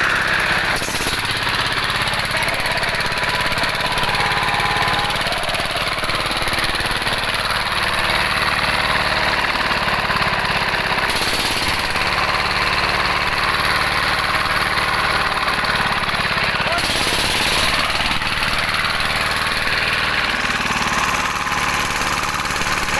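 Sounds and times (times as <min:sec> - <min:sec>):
diesel engine running steadily: 0:00.0 - 0:22.9.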